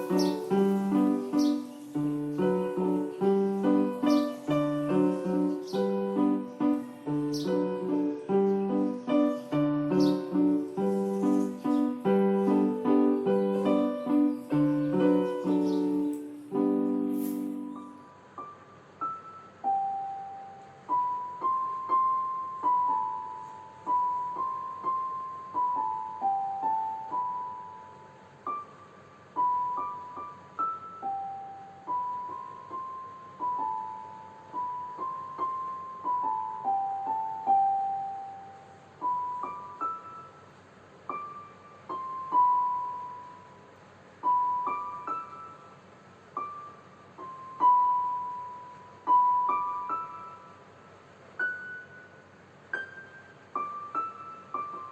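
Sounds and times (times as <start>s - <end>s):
low keyboard chord ringing: 0.0s - 54.9s
slow keyboard melody: 0.0s - 54.9s.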